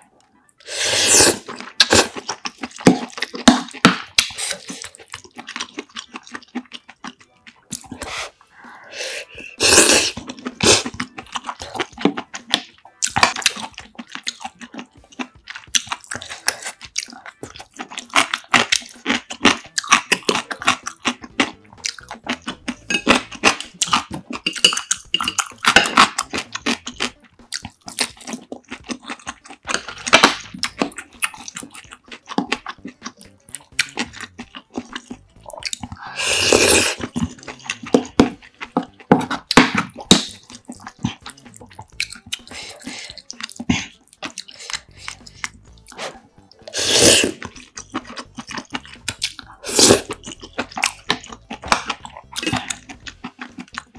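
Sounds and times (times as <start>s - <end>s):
person chewing food: 0.0s - 53.9s
slurping: 0.6s - 53.9s.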